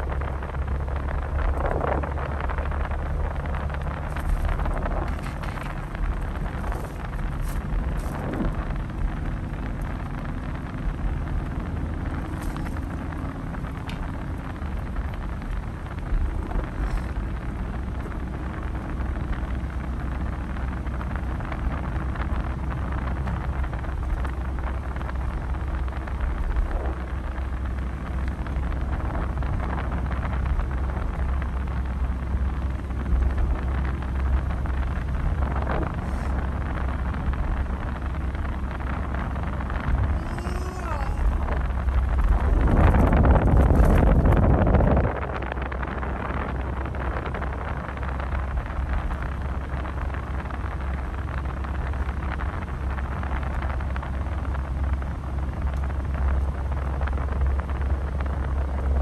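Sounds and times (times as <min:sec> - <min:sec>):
tyre and engine rumble: 0:00.0 - 0:59.0
wind hiss: 0:00.0 - 0:59.0.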